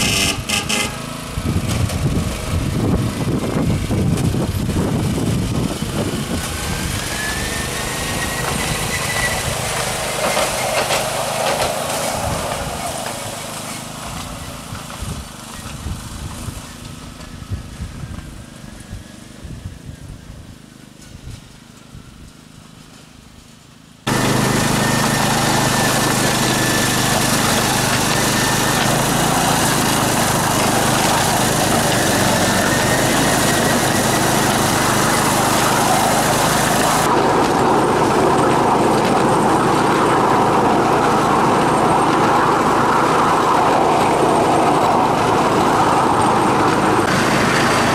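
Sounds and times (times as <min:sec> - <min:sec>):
miniature train running on track: 0:00.0 - 0:17.4, 0:24.1 - 0:47.9.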